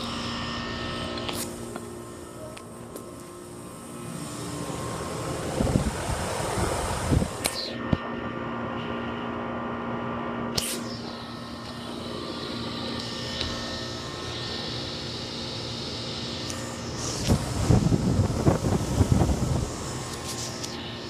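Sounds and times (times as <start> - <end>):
heat pump humming: 0.0 - 21.0.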